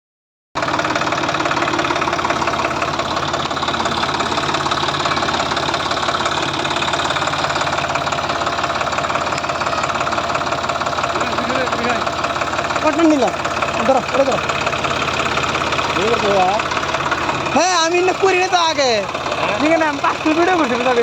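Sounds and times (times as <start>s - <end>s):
diesel engine chugging: 0.6s - 21.0s.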